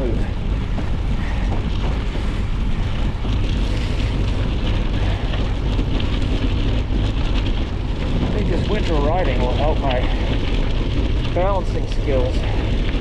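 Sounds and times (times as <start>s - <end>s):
bike tyres crunching on snow: 0.0s - 13.0s
wind buffeting microphone: 0.0s - 13.0s.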